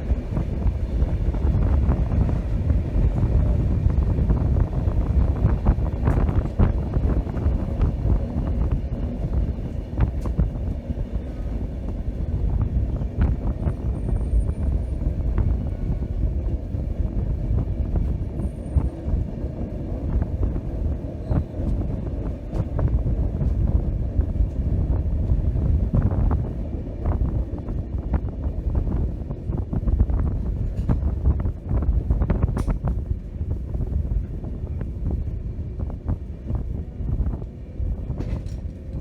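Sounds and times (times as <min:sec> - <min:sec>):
train rumbling on track: 0:00.0 - 0:39.0
wheels clacking on rails: 0:00.0 - 0:39.0.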